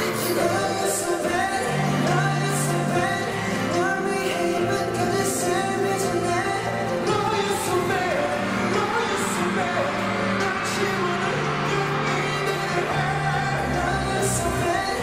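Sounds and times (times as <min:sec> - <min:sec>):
backing music: 0:00.0 - 0:15.0
person singing: 0:00.0 - 0:15.0.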